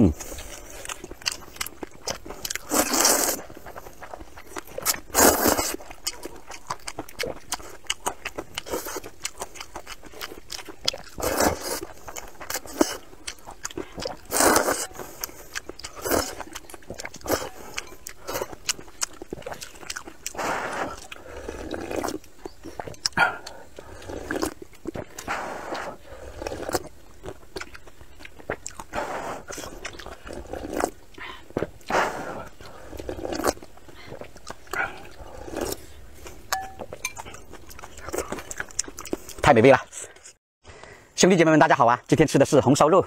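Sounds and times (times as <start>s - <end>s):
slurping noodles: 0.0s - 6.5s, 7.2s - 27.8s, 28.5s - 36.4s
chewing and lip smacking: 0.1s - 40.4s.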